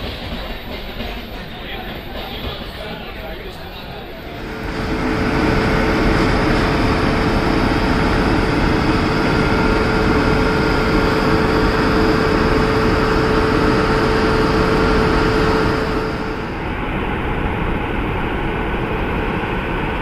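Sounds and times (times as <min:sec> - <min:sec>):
electric locomotive humming: 0:00.0 - 0:20.0.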